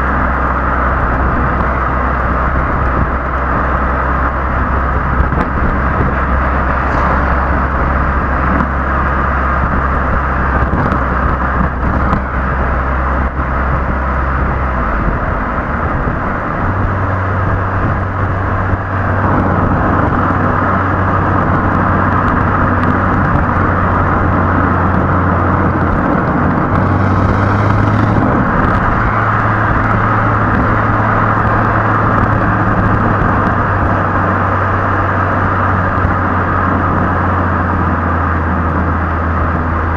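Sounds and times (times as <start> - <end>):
car exhaust drone: 0.0 - 39.9
road noise: 0.0 - 39.9
wind noise: 0.0 - 39.9.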